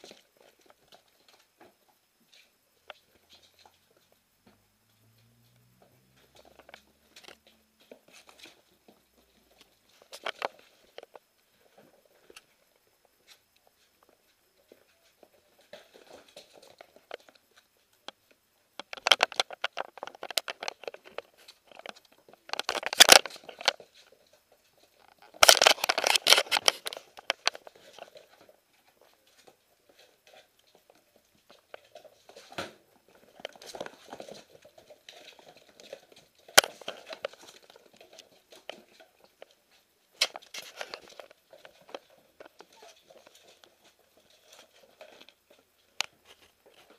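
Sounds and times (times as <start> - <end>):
puppies scampering on hard floor: 0.0 - 46.9.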